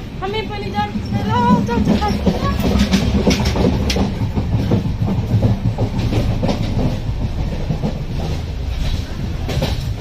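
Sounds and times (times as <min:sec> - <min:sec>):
train rumble: 0:00.0 - 0:10.0
wheels clacking over rails: 0:00.6 - 0:10.0.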